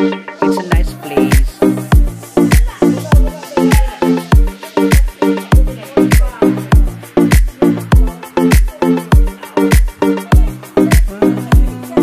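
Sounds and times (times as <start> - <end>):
dance music: 0.0 - 12.0
kick drum beat: 0.7 - 11.7.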